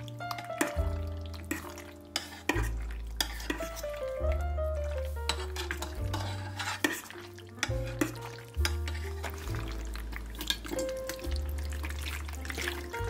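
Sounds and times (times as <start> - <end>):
background music: 0.0 - 13.0
utensil stirring thick sauce: 0.0 - 13.0.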